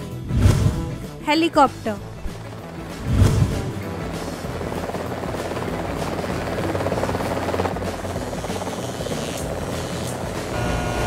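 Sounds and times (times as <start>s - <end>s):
helicopter rotor blades chopping: 1.4s - 11.0s.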